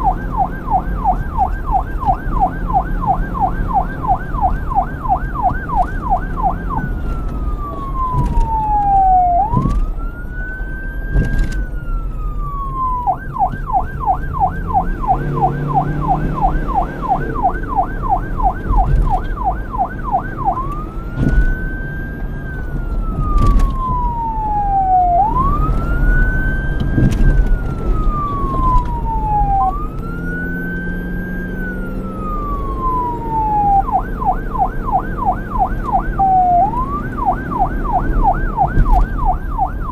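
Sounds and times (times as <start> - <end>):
police siren yelp and wail: 0.0 - 39.9.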